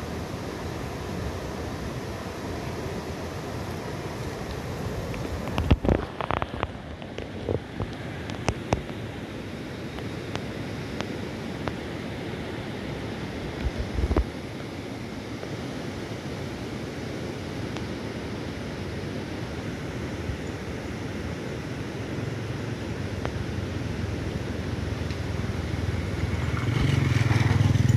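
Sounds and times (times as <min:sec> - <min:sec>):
river rushing over rapids: 0:00.0 - 0:27.9.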